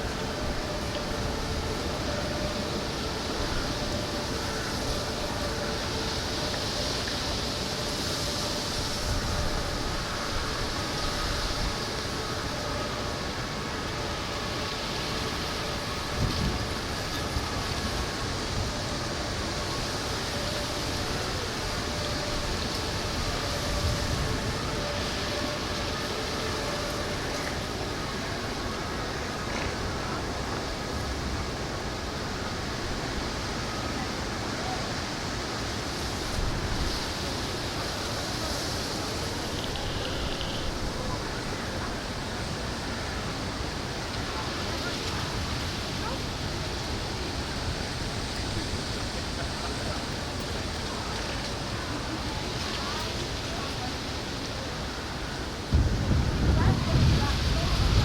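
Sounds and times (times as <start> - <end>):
wind blowing across microphone: 0.0 - 58.0.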